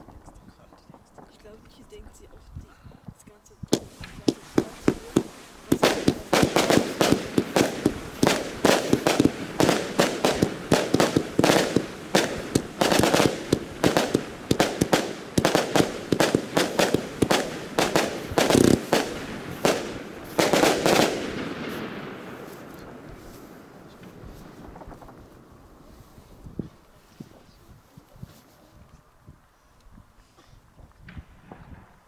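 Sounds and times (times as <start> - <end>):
fireworks bangs and crackles: 0.0 - 28.1, 31.0 - 32.0.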